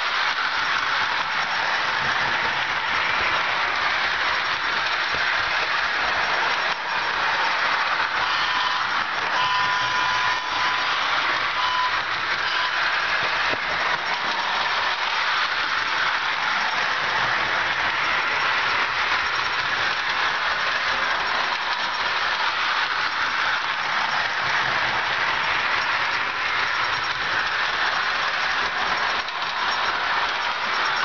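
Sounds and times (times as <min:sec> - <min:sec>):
toy train motor humming: 0:00.0 - 0:31.0.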